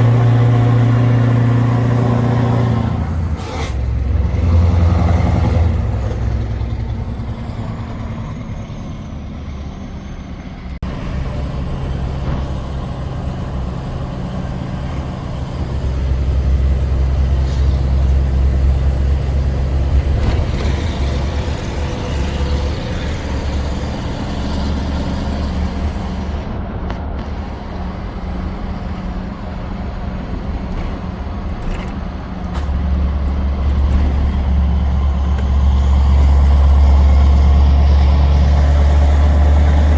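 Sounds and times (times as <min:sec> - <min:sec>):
diesel truck engine pulling under load: 0:00.0 - 0:39.9.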